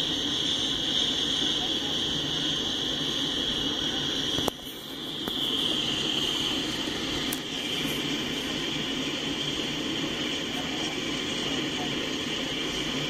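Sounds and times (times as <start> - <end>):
freight train wheels on rails: 0.0 - 13.0
high-pitched hiss: 0.0 - 13.0.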